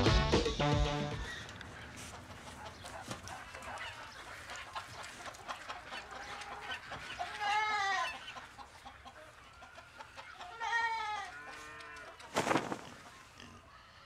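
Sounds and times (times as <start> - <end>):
drawn-out chicken call: 0.9 - 14.0
chickens clucking: 1.1 - 14.0.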